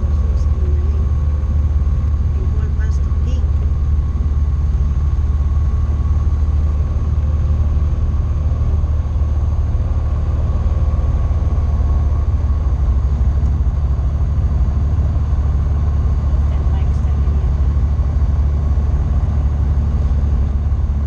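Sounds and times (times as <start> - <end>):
aircraft engine low drone: 0.0 - 21.0.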